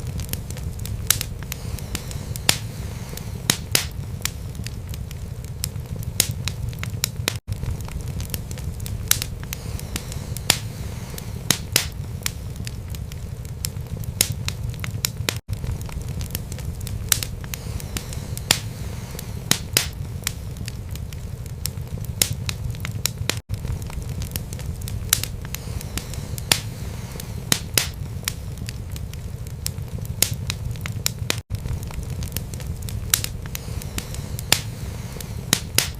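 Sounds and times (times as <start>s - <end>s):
fire crackling and popping: 0.0s - 35.9s
low rumble of flames: 0.0s - 35.9s.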